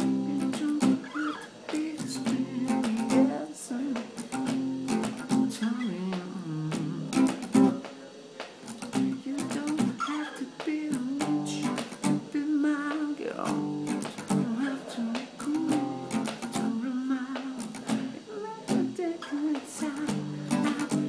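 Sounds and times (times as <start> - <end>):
man singing: 0.0 - 7.8, 8.9 - 21.0
acoustic guitar strumming: 0.0 - 7.9, 8.6 - 21.0.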